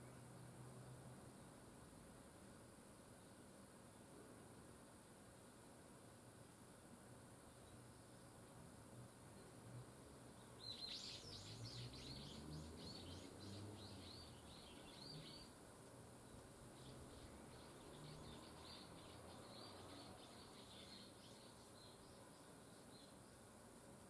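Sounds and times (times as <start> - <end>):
low outdoor background: 0.0 - 24.0
songbirds chirping: 0.0 - 24.0.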